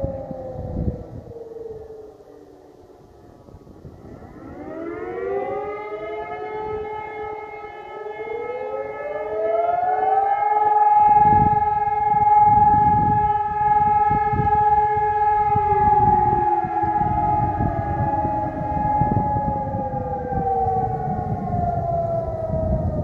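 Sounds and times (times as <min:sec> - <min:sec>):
steady siren tone: 0:00.0 - 0:23.0.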